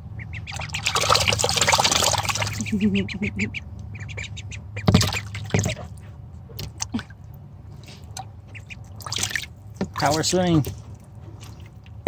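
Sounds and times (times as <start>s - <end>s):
ducklings splashing in water: 0.0s - 12.0s.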